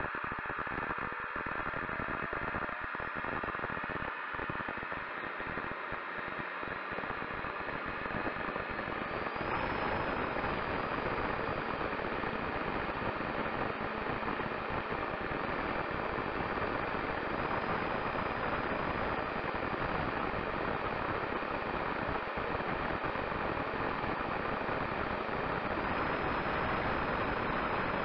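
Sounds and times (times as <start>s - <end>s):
faint motor whine rising: 0.0s - 28.0s.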